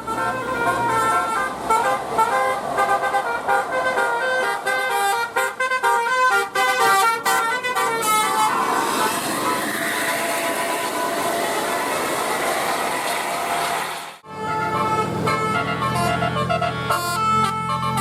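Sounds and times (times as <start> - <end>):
multi-tone bus air horn melody: 0.0 - 18.0.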